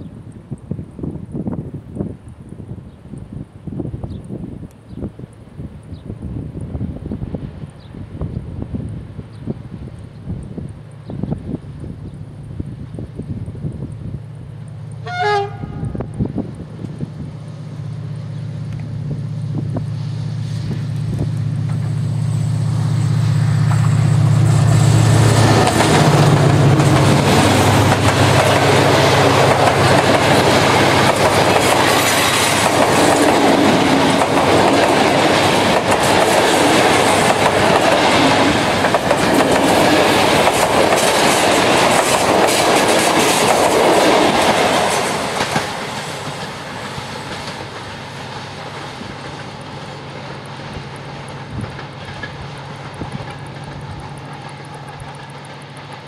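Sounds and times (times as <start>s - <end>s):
locomotive hum: 0.0s - 56.0s
train wheels on rails: 0.0s - 56.0s.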